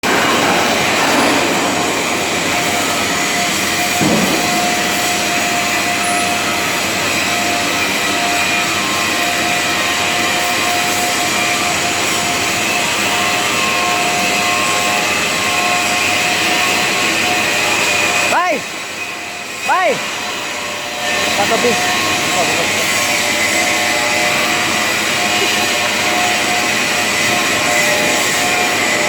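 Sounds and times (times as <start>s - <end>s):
welding machine drone: 0.0s - 29.0s.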